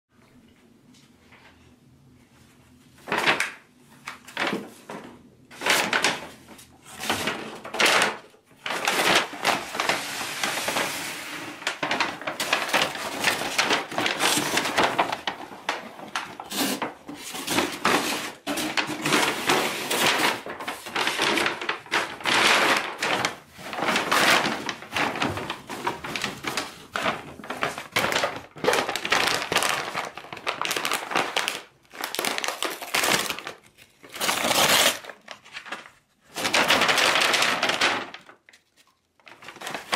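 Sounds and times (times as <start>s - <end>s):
paper bags crinkling and tearing: 3.0s - 39.9s.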